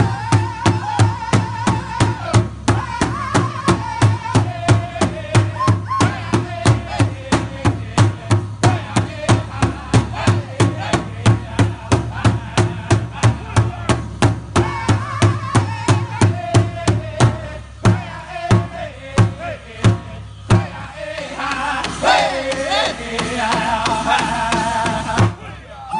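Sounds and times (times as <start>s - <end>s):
large hide drum beating: 0.0s - 25.4s
group singing in unison: 0.0s - 25.9s.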